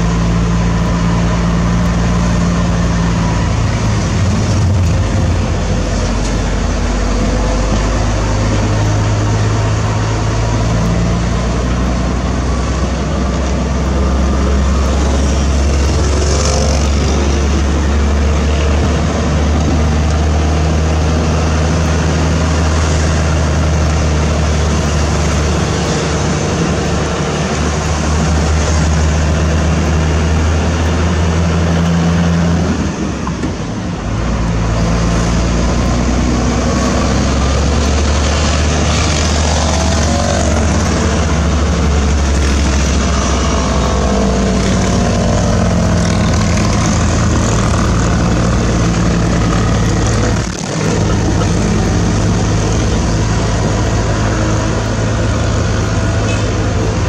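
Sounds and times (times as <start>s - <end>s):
diesel truck engine running: 0.0s - 57.0s
road noise: 0.0s - 57.0s.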